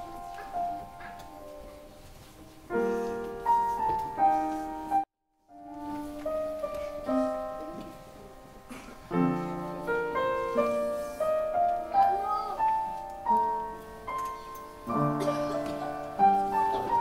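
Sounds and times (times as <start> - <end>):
upright piano melody: 0.0 - 17.0.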